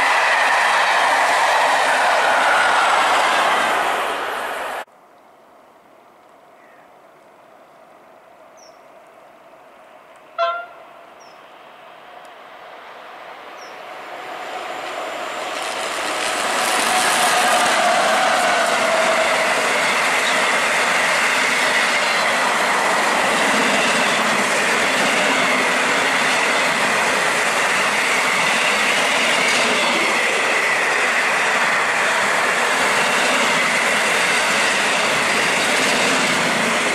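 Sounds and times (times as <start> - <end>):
freight train rushing past: 0.0 - 4.9, 10.5 - 36.9.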